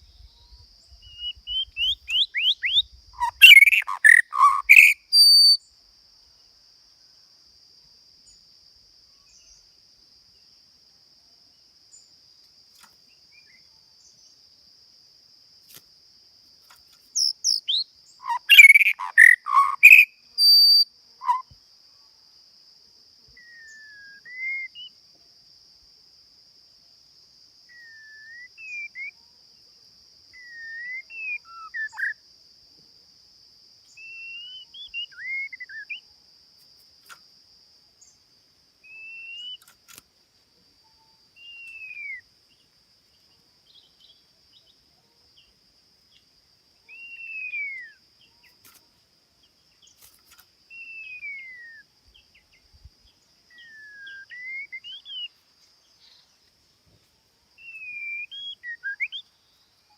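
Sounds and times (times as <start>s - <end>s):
songbird singing: 0.0s - 7.5s, 8.1s - 15.8s, 16.4s - 22.4s, 23.1s - 25.9s, 26.6s - 59.9s.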